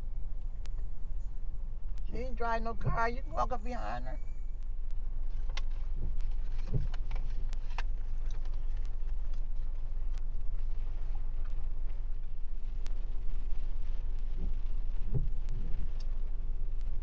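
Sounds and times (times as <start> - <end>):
car engine rumble from inside: 0.0 - 17.0
rain ticking on car: 0.1 - 4.0, 4.6 - 17.0.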